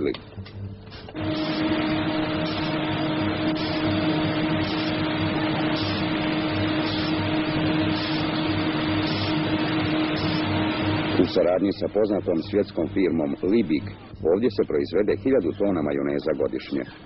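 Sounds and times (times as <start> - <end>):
machine humming and whirring: 0.0 - 17.0.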